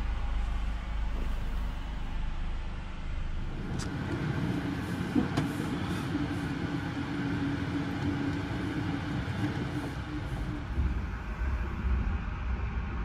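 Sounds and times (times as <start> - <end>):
steady hum: 0.0 - 13.0
train rumble: 0.0 - 13.0.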